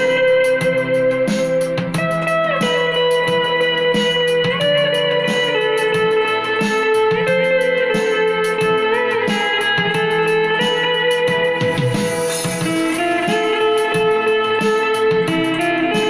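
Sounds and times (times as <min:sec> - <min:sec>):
bass line: 0:00.0 - 0:16.0
lap steel guitar melody: 0:00.0 - 0:16.0
steady ticking beat: 0:00.1 - 0:16.0.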